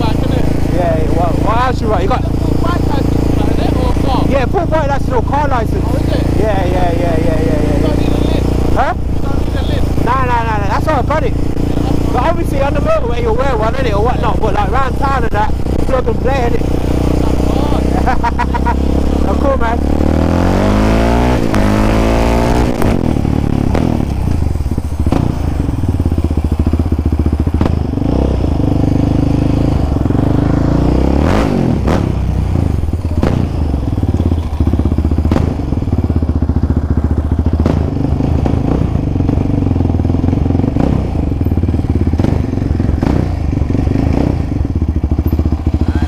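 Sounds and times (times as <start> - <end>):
quad bike engine running: 0.0 - 46.0.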